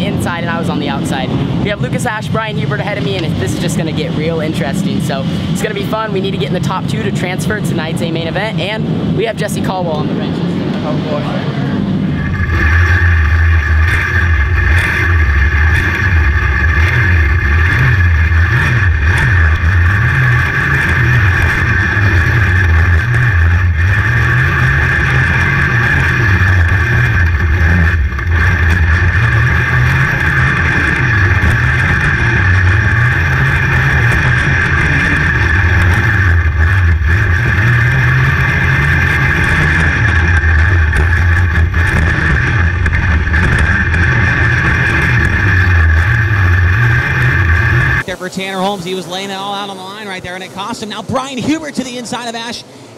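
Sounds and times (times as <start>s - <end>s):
kart engine revving: 0.0s - 52.9s.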